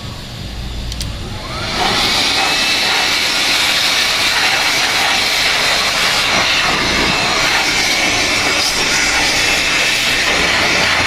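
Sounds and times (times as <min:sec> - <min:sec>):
cordless blower rush of air: 0:00.0 - 0:11.0
faint motor whine: 0:00.0 - 0:11.0.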